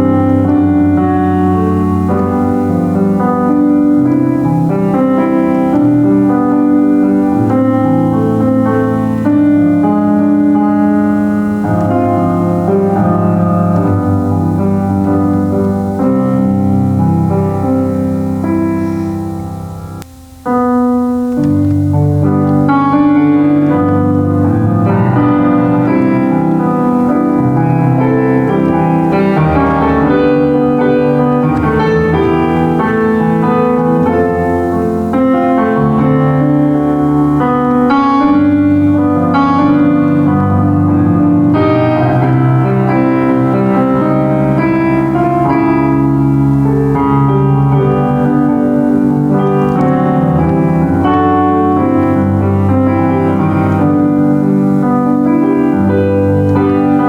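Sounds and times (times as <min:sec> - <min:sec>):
solo piano hymn-style song: 0:00.0 - 0:57.0.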